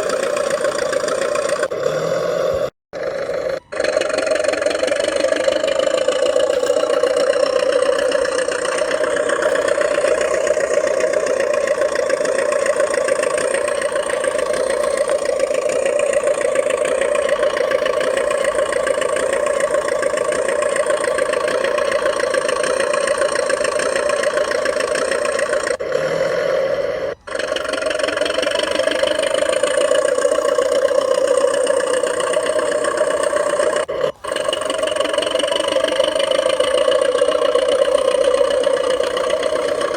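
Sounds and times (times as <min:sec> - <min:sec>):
model bulldozer engine drone: 0:00.0 - 0:39.9.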